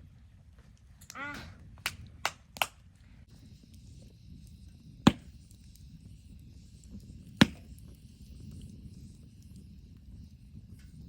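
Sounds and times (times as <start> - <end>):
wood fire popping: 0.5 - 11.0.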